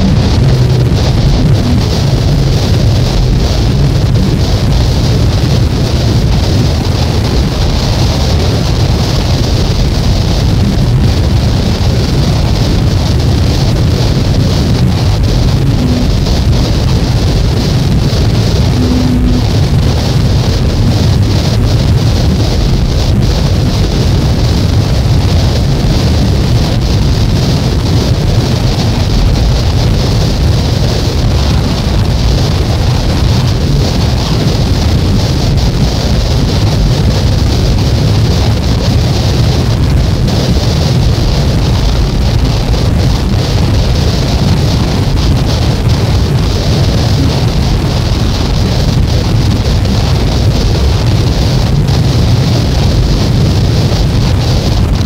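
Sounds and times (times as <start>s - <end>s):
dense noise music: 0.0s - 55.0s.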